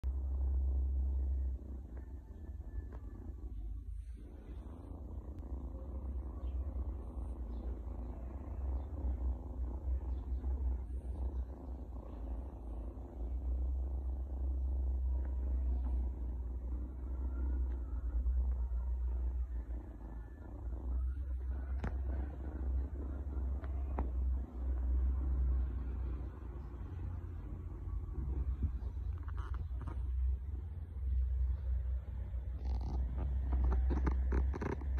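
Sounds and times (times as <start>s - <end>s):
kitten purring: 0.0s - 34.9s.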